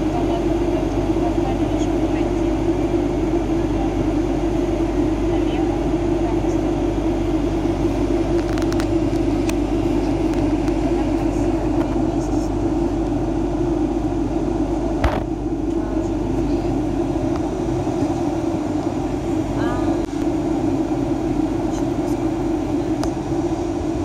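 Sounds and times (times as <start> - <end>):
airplane cabin engine drone: 0.0 - 24.0.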